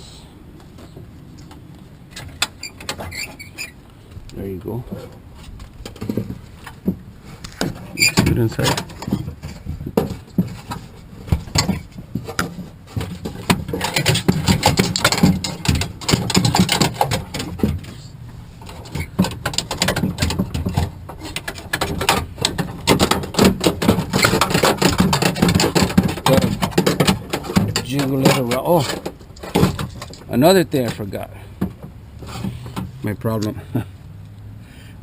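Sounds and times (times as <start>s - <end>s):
plastic and metal parts rattling: 5.0s - 18.0s, 18.6s - 33.6s.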